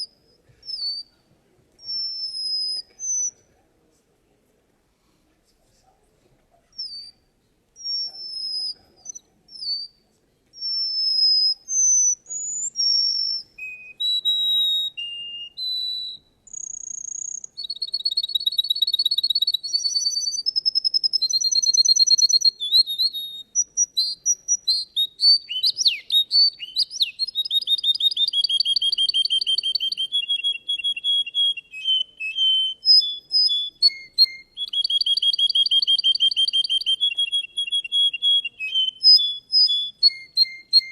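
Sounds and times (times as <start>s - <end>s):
canary singing trills: 0.0s - 1.2s, 1.8s - 3.4s, 6.7s - 10.0s, 10.6s - 40.9s.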